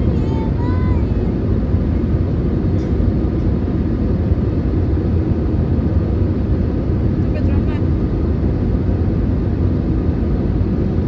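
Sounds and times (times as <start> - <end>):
aircraft cabin engine and airflow rumble: 0.0 - 11.0.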